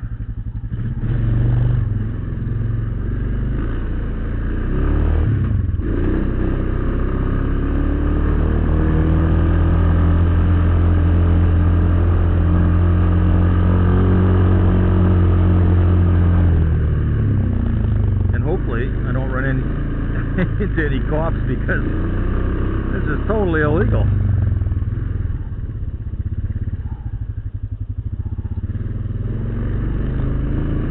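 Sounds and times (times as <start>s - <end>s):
atv engine running: 0.0s - 30.9s.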